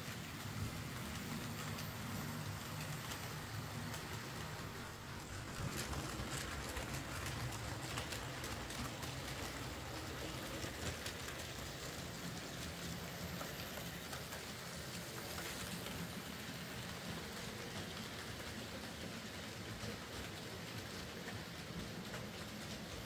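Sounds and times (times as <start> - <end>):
small wheels clicking on rails: 0.0 - 23.0.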